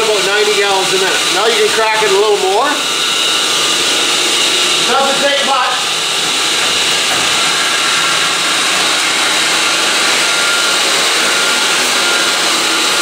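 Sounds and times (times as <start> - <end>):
pump motor and rushing water: 0.0 - 13.0.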